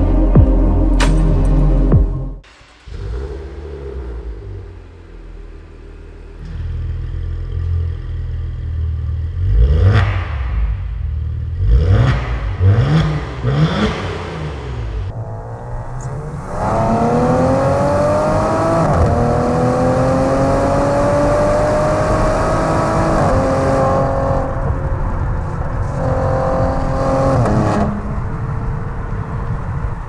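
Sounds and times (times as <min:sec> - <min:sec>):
car engine accelerating: 0:00.0 - 0:30.0
road noise: 0:00.0 - 0:30.0.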